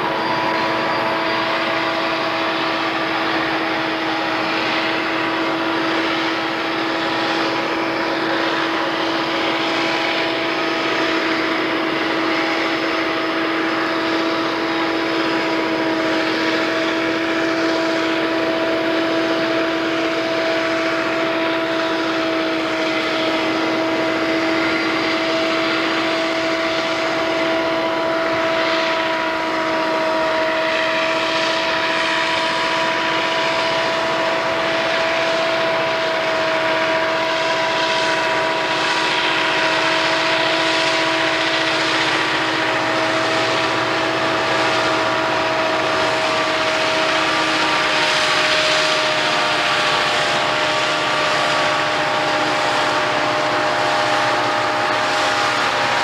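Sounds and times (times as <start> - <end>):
constant whine: 0.0 - 56.0
diesel locomotive engine drone: 0.0 - 56.0.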